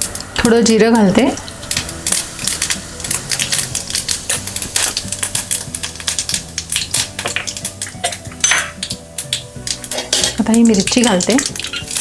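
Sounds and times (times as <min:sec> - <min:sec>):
seeds popping in hot oil: 0:00.0 - 0:12.0.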